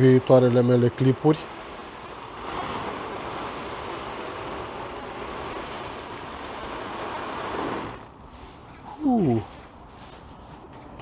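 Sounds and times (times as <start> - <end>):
hose spraying water on tent: 0.0 - 10.4.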